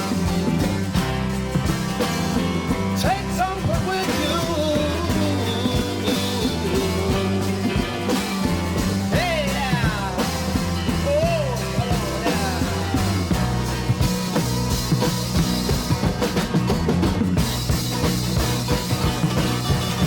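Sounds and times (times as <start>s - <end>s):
psychedelic rock instrumental: 0.0s - 20.0s.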